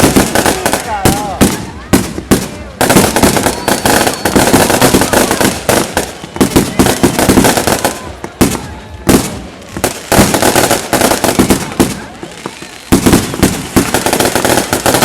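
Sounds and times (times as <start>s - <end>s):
fireworks crackling and banging: 0.0s - 15.0s.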